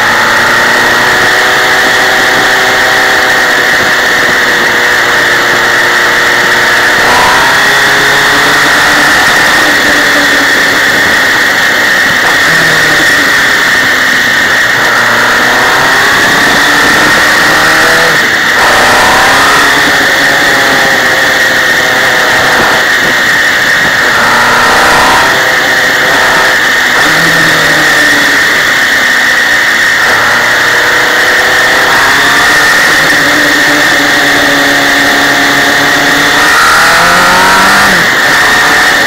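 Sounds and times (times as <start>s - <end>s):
motorcycle engine revving: 0.0s - 39.0s
wind and road noise: 0.0s - 39.0s.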